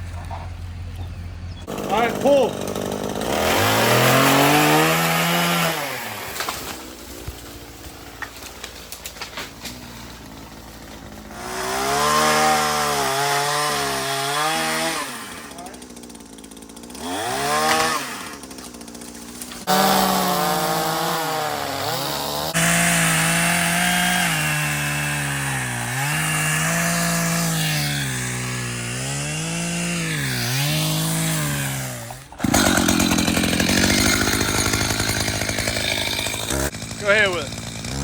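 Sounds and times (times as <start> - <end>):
chainsaw cutting wood: 1.6 - 38.0.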